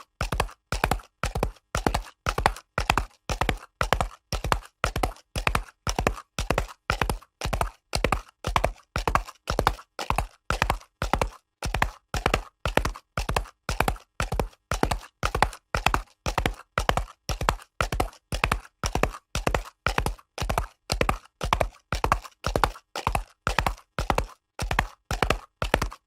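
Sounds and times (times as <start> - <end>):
horse hooves galloping on concrete: 0.0 - 26.0.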